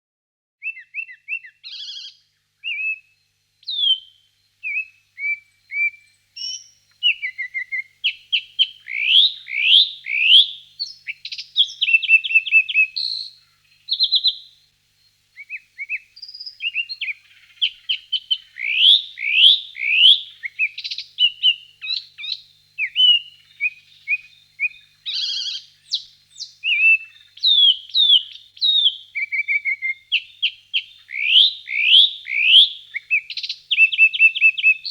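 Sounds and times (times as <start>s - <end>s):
birds singing: 0.6s - 34.9s.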